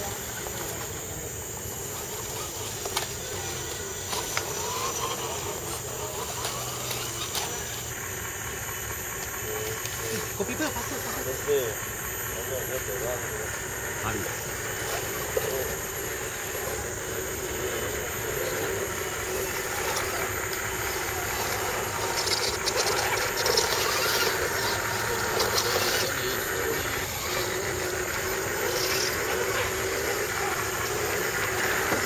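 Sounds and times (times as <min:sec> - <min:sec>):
electric motors and gearboxes whining: 0:00.0 - 0:32.0
steady high hiss: 0:00.0 - 0:32.0.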